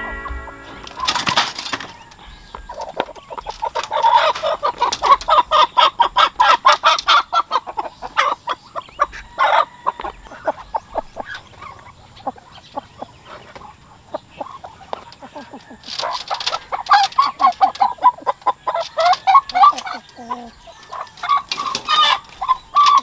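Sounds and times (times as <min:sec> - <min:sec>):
chicken clucking in alarm: 0:00.0 - 0:23.0
chicken squawk: 0:00.0 - 0:23.0.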